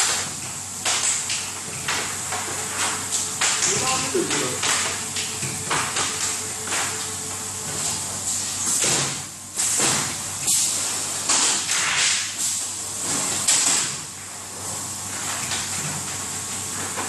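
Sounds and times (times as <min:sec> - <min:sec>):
machine running with low hum: 0:00.0 - 0:17.0.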